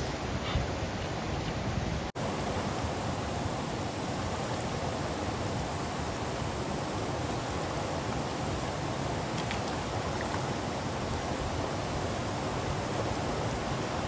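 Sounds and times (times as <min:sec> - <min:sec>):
fast-flowing river water: 0:00.0 - 0:14.0.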